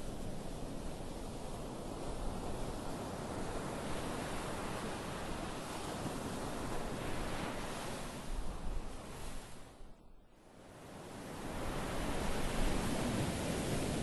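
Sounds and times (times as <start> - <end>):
waves washing up a beach: 0.0 - 14.0.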